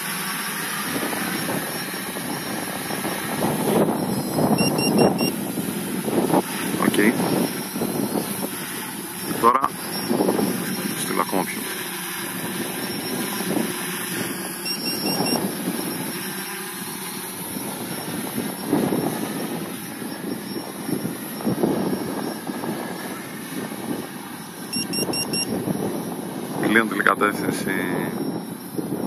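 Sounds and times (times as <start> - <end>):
quadcopter propellers droning: 0.0 - 29.0
wind buffeting microphone: 0.0 - 29.0.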